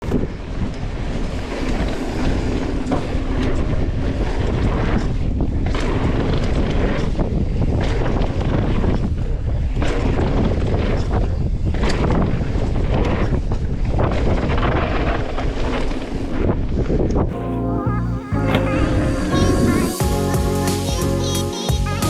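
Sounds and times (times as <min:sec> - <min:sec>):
wind buffeting microphone: 0:00.0 - 0:20.3.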